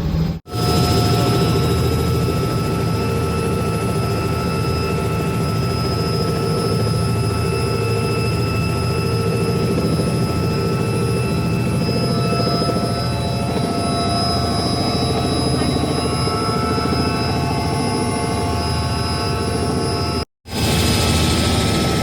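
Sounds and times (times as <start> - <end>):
helicopter engine and rotor: 0.0 - 22.0.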